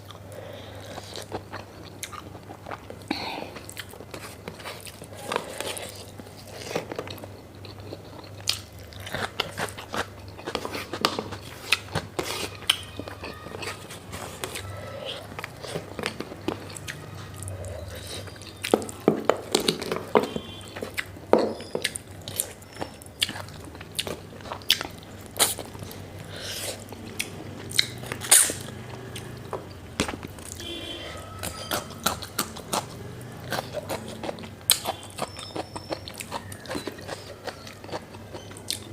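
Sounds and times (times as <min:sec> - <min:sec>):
person chewing and biting: 0:00.0 - 0:38.9.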